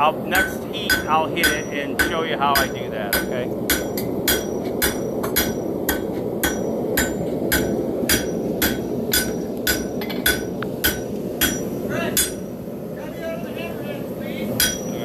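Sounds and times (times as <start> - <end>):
gas forge burner roaring: 0.0 - 15.0
hammer clanging on anvil: 0.3 - 12.5, 14.6 - 15.0.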